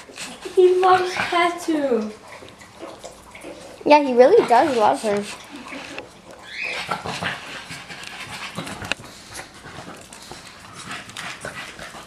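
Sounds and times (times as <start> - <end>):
dogs panting: 0.0 - 12.0
paws scrabbling on tile floor: 0.0 - 12.0.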